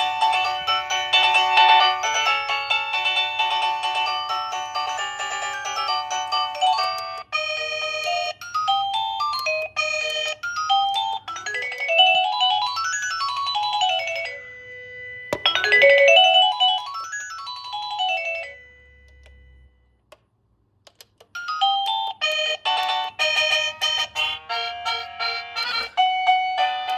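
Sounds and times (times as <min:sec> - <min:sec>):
electronic doorbell chime melody: 0:00.0 - 0:19.7, 0:21.4 - 0:26.9.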